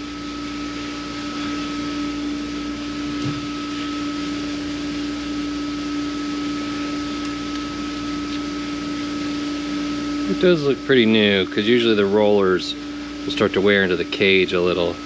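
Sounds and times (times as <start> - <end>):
two-tone mechanical hum: 0.0 - 15.0.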